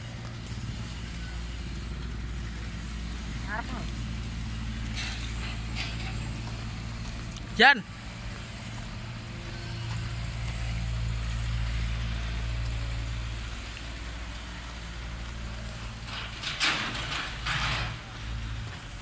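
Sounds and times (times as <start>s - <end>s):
engine rumble: 0.0s - 19.0s.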